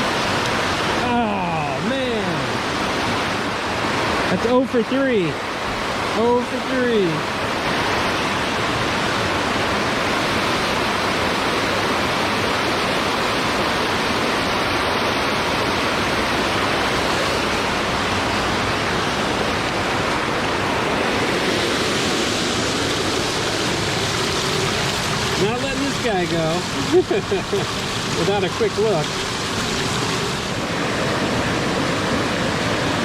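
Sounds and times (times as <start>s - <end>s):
stream water over waterfall: 0.0s - 33.0s.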